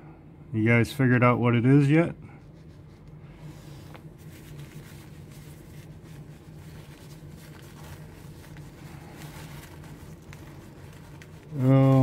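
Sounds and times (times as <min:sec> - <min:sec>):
steady low hum: 0:00.0 - 0:12.0
paper tissue rustling: 0:02.4 - 0:12.0.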